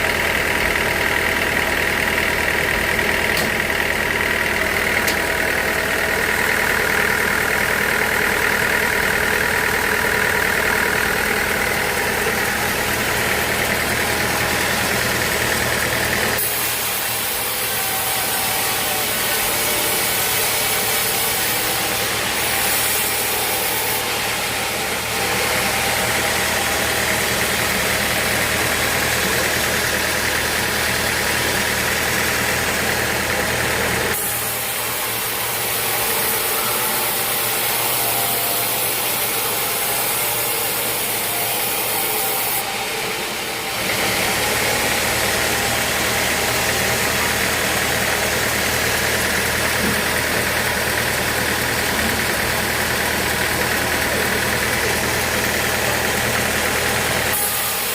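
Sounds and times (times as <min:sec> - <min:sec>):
sawmill engine humming: 0:00.0 - 0:57.9.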